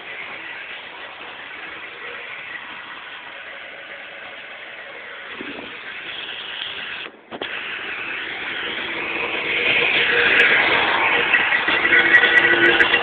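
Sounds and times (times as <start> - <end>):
rattle: 0.0 - 13.0
steady mechanical car noise: 0.0 - 13.0.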